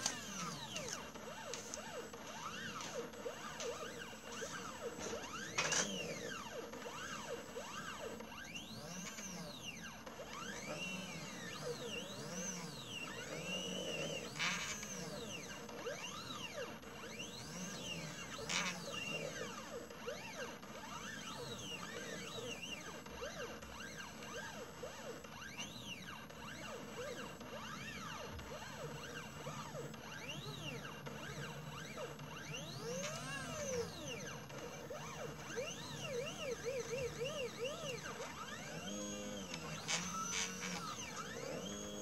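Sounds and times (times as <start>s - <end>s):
stepper motors whining: 0.0s - 42.0s.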